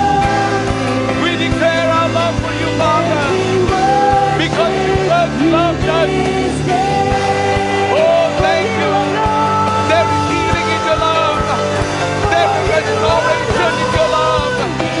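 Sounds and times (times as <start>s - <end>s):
live band playing: 0.0s - 15.0s
person singing: 0.0s - 15.0s.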